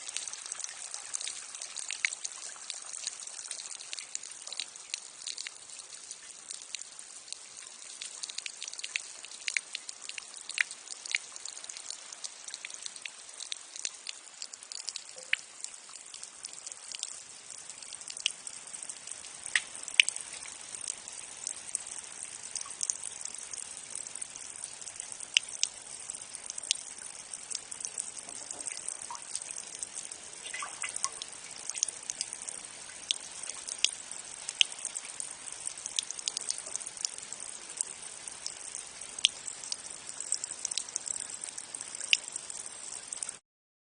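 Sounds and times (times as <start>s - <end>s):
sharp water drips: 0.0s - 43.4s
water trickling from downspout: 0.0s - 43.4s.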